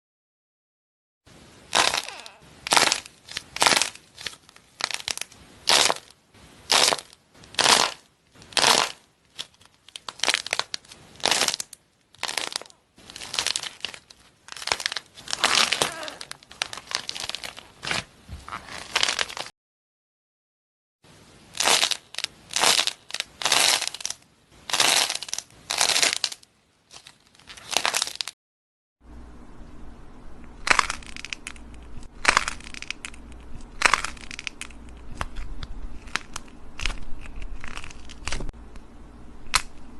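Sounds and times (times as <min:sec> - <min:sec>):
crunchy slime crackling: 0:01.7 - 0:19.5, 0:21.6 - 0:28.4, 0:30.6 - 0:38.5.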